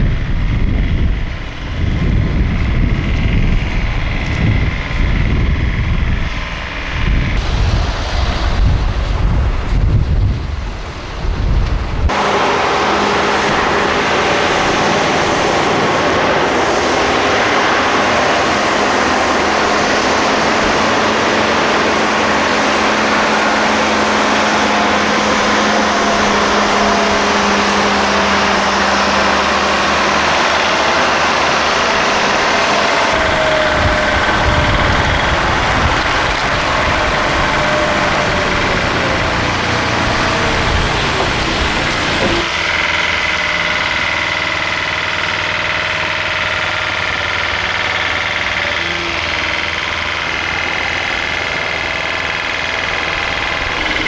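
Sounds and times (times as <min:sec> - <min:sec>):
wind buffeting microphone: 0:00.0 - 0:43.3
heavy vehicle engine idling: 0:00.0 - 0:54.0.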